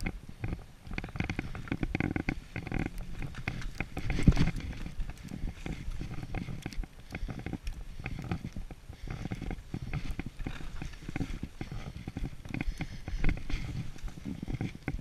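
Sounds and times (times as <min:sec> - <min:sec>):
skis sliding over snow: 0:00.4 - 0:15.0.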